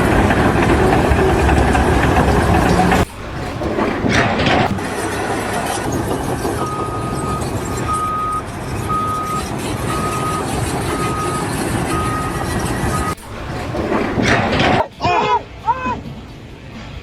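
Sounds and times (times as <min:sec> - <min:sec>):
reversing alarm beeping: 0:00.0 - 0:14.8
heavy engine rumble: 0:00.0 - 0:17.0.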